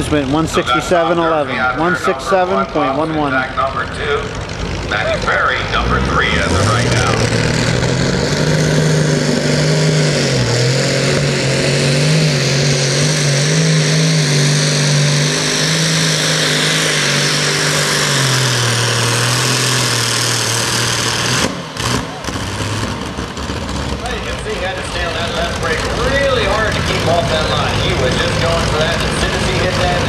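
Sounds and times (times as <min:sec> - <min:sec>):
tractor engine at full throttle: 0:00.0 - 0:30.0.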